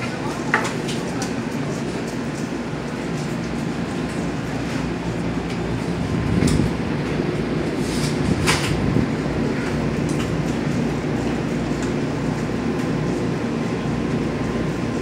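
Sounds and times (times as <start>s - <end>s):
train low hum: 0.0s - 15.0s.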